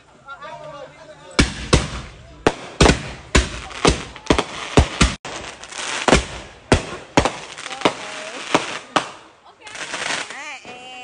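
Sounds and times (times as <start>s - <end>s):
fireworks crackling hiss: 1.2s - 11.0s
fireworks banging: 1.3s - 11.0s.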